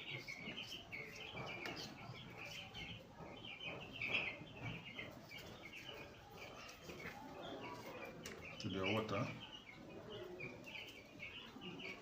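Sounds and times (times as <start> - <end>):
chicks cheeping: 0.0 - 12.0.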